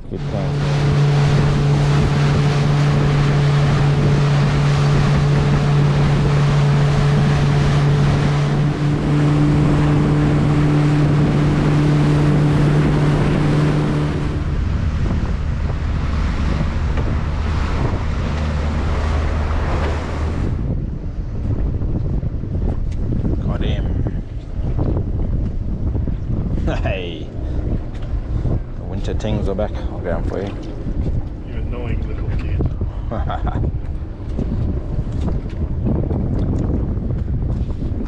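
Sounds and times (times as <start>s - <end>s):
water rushing past: 0.0s - 21.4s, 26.5s - 36.9s
boat motor running: 0.0s - 38.0s
wind: 0.0s - 38.0s.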